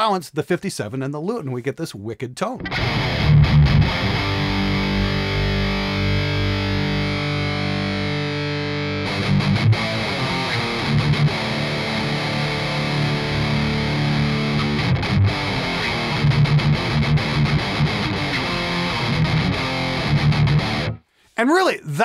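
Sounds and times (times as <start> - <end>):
distorted electric guitar chords: 2.6 - 21.0.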